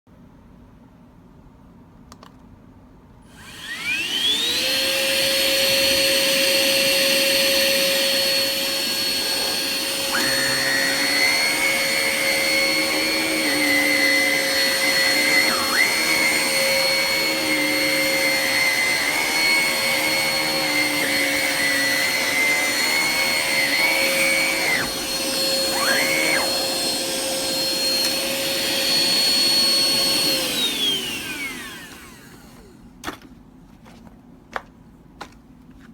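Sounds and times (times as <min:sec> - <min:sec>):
vacuum cleaner motor whine: 0:03.3 - 0:32.9.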